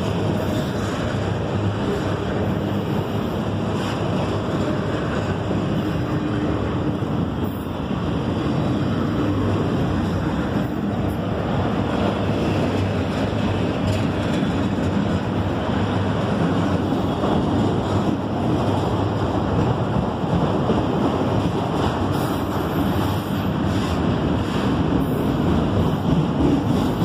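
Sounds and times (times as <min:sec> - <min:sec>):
freight cars rolling on rails: 0:00.0 - 0:27.0.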